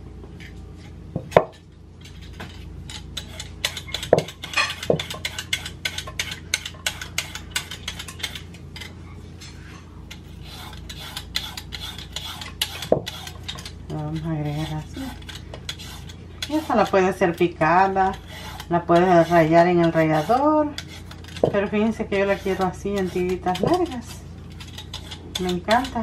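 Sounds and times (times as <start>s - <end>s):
peeler rasping on carrot: 2.0s - 9.0s, 10.1s - 26.0s.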